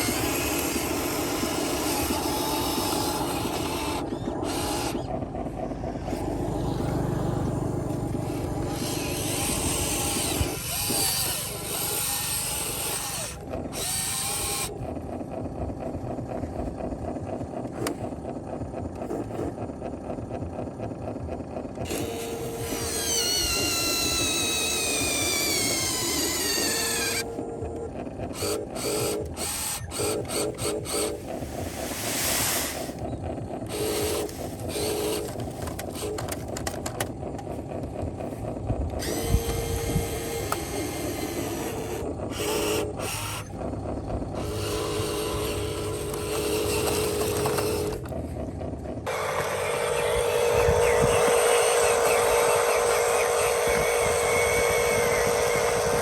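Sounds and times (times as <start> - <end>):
toy electric motors whirring: 0.0 - 5.2, 8.2 - 15.0, 21.7 - 48.3, 49.0 - 56.0.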